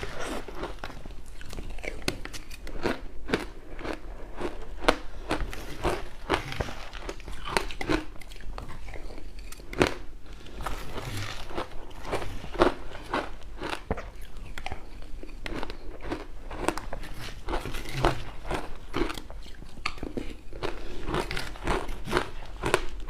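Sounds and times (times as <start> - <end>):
crunching ice being chewed: 0.0 - 23.0.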